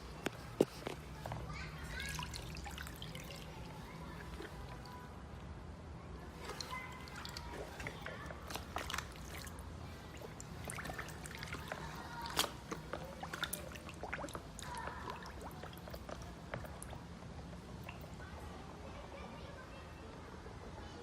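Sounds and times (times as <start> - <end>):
water trickling and splashing: 0.0 - 5.4, 6.3 - 18.5
small water drips: 0.0 - 5.5, 6.3 - 18.5.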